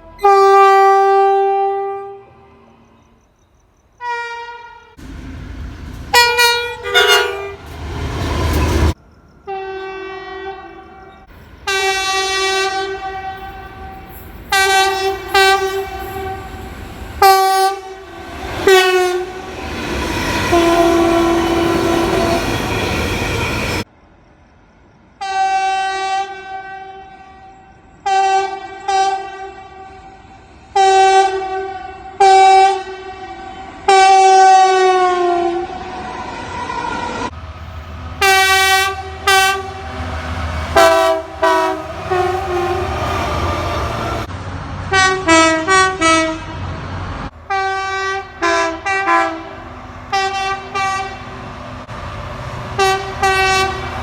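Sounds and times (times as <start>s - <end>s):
train horn blasts: 0.0s - 3.2s, 4.0s - 23.8s, 25.2s - 44.3s, 44.9s - 46.7s, 47.4s - 51.6s, 52.5s - 54.0s
train rumbling past: 4.7s - 25.5s, 26.2s - 54.0s.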